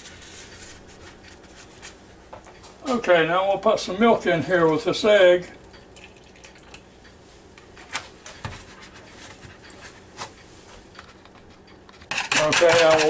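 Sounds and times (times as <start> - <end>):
faint steady hum: 0.0 - 12.8.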